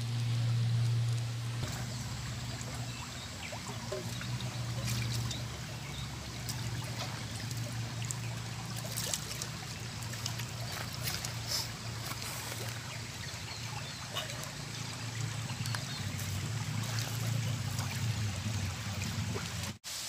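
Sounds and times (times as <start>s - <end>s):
low steady hum: 0.0s - 19.8s
river flowing over stones: 0.1s - 20.0s.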